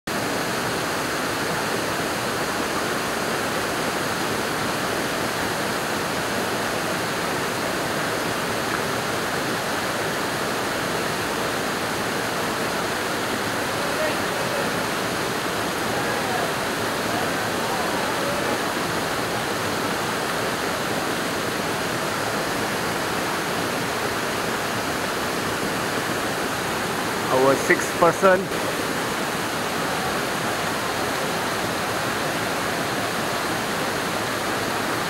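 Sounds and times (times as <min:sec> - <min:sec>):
waterfall rushing: 0:00.1 - 0:35.0.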